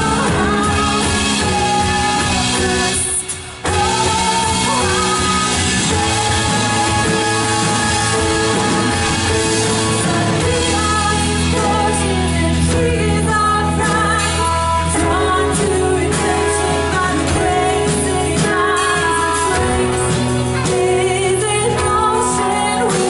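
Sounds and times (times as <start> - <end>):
person singing: 0.0 - 23.0
rock band playing: 0.0 - 23.0.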